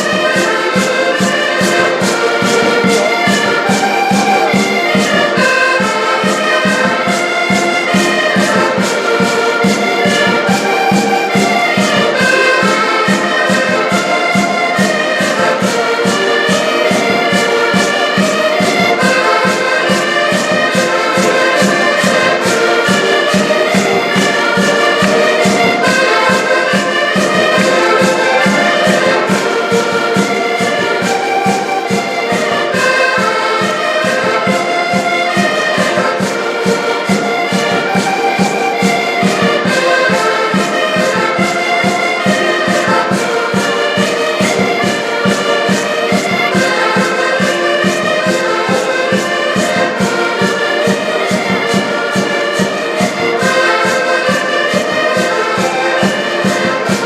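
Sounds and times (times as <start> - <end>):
fast drumbeat: 0.0 - 57.0
wind instruments melody: 0.0 - 57.0.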